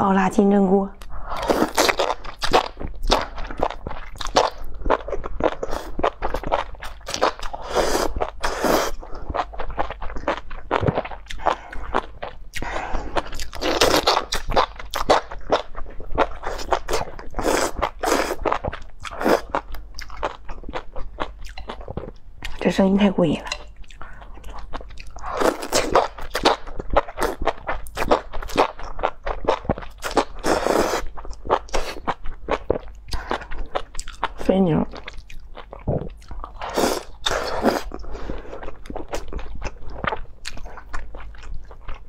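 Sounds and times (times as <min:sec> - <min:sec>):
slurping and chewing: 0:01.0 - 0:22.6, 0:23.5 - 0:42.0.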